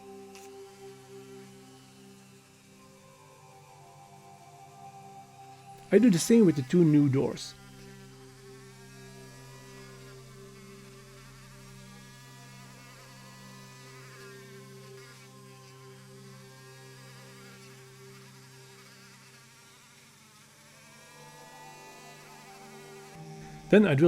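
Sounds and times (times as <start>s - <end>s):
rotary tool wire brush whine: 0.0s - 24.0s.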